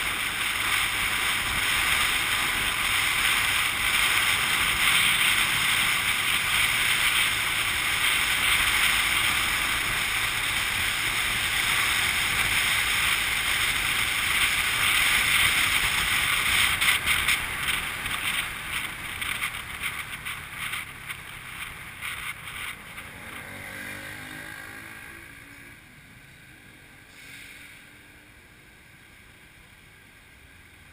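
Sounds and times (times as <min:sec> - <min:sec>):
wind rushing over microphone: 0:00.0 - 0:24.9
motorbike road noise: 0:00.0 - 0:30.9.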